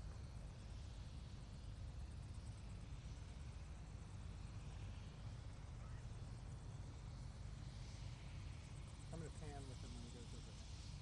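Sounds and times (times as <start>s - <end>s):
helicopter engine and rotor rumble: 0.0s - 11.0s.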